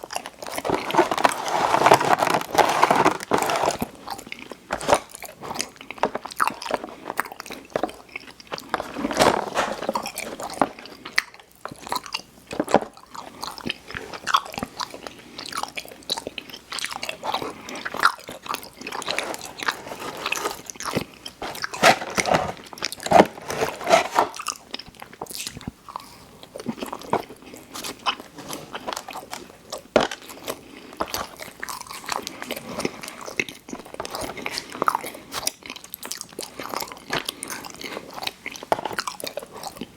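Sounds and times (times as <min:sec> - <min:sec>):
chewing sweets: 0:00.0 - 0:39.9.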